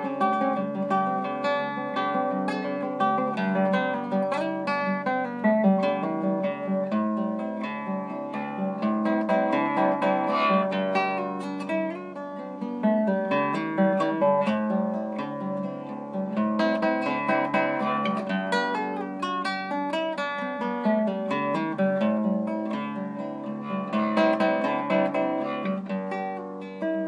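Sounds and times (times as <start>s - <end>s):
classical guitar fingerstyle: 0.0s - 27.0s.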